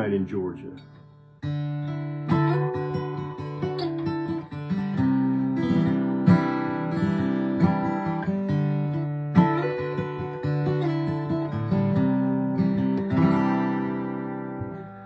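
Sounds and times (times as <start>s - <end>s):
acoustic guitar strumming chords: 0.2s - 15.0s.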